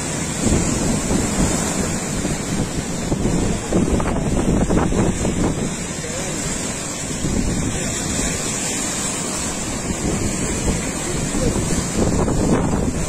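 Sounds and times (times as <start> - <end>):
rough surf breaking: 0.0 - 13.0
wind buffeting microphone: 0.0 - 13.0.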